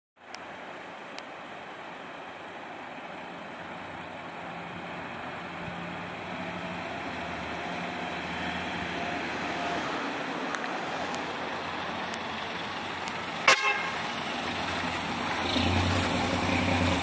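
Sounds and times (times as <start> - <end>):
truck diesel engine pulling away: 3.3 - 17.0.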